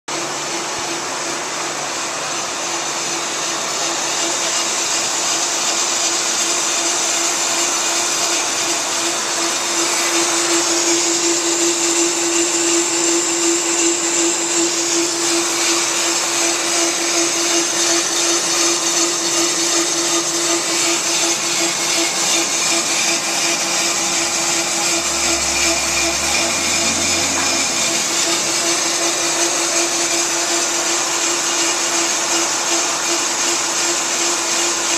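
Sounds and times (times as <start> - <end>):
brake lathe motor whine: 0.1 - 34.9.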